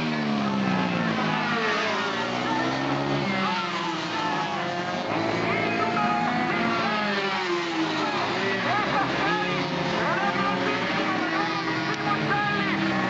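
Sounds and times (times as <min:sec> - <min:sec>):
small racing engines revving: 0:00.0 - 0:13.0.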